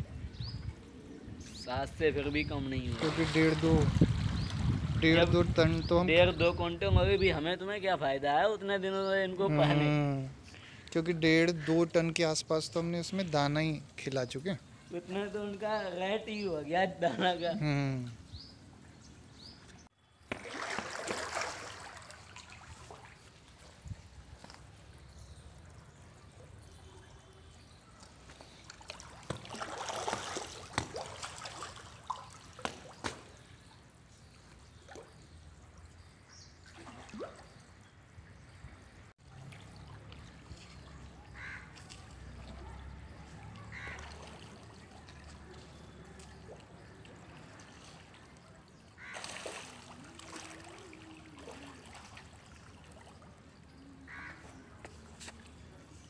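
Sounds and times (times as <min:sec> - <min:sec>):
water trickling and splashing: 0:01.6 - 0:08.5, 0:17.1 - 0:56.0.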